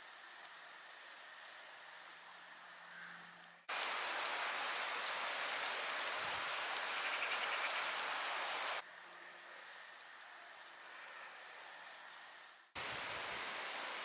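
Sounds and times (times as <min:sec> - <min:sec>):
rain-like rushing hiss: 0:00.0 - 0:14.0.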